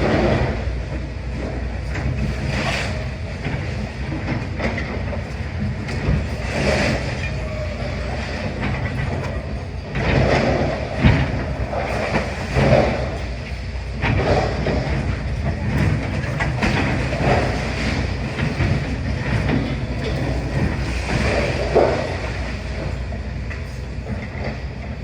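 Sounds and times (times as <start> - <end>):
excavator diesel rumble: 0.0 - 25.0.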